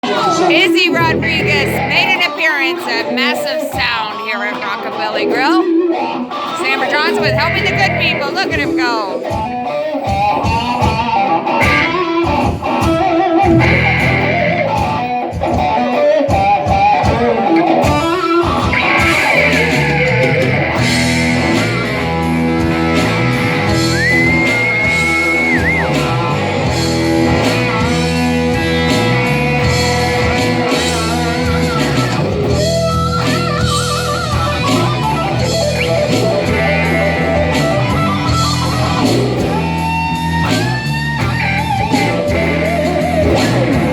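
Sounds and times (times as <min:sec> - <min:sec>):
bass guitar: 0:00.0 - 0:43.9
electric guitar lead: 0:00.0 - 0:43.9
live rock band: 0:00.0 - 0:43.9.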